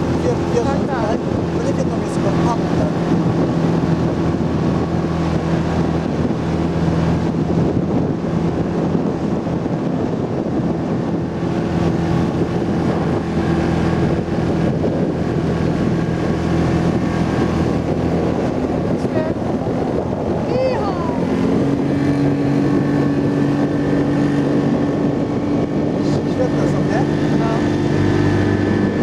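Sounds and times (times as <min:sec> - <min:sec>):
rushing water: 0:00.0 - 0:29.0
speedboat engine hum: 0:00.0 - 0:29.0
wind buffeting microphone: 0:00.0 - 0:29.0.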